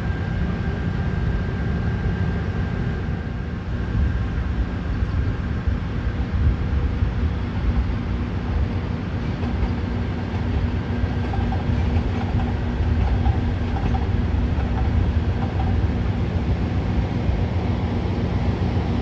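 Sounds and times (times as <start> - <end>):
constant low hum: 0.0 - 19.0
train wheels rumbling on rail: 0.0 - 19.0.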